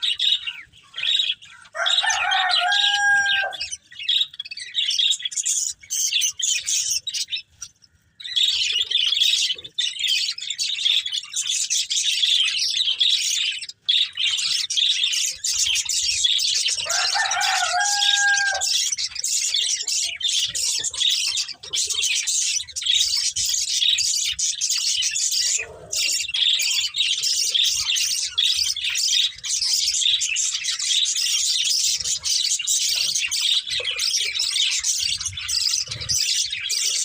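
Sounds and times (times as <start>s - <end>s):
budgerigars chirping and chattering: 0.0s - 37.0s
lower steady bird call: 0.0s - 37.0s.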